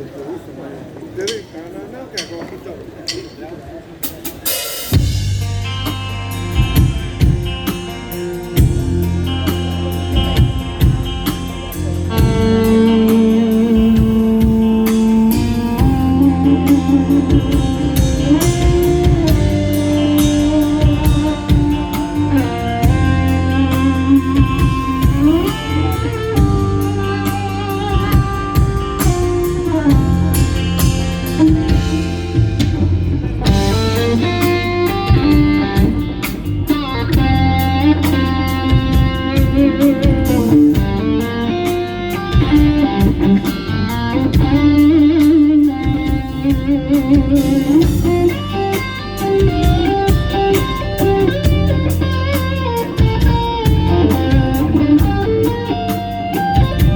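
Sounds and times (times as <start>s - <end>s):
drum kit: 2.2s - 56.9s
bass guitar: 4.0s - 56.9s
electric lead guitar melody: 4.3s - 56.9s.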